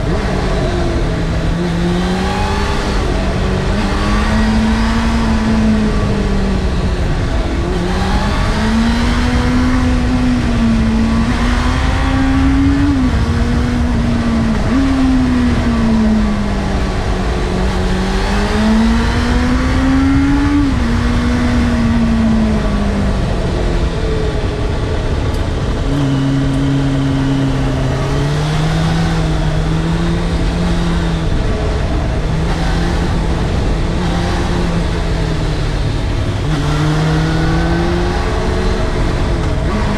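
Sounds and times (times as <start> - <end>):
motorcycle engine revving: 0.0 - 39.9
wind rush over microphone: 0.0 - 39.9.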